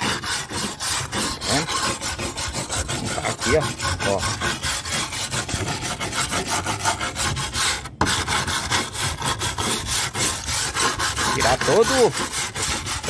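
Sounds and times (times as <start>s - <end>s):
wire brush scrubbing roof tile: 0.0s - 13.0s.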